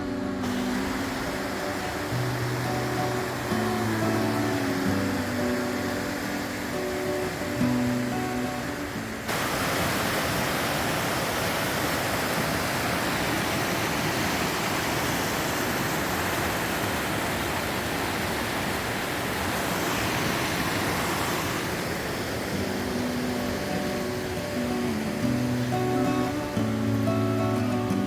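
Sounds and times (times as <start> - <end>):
rushing river water: 0.0 - 28.0.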